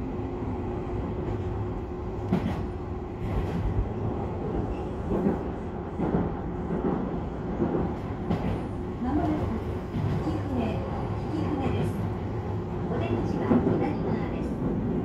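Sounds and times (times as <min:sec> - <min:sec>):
low rumble of train wheels on rail: 0:00.0 - 0:15.0.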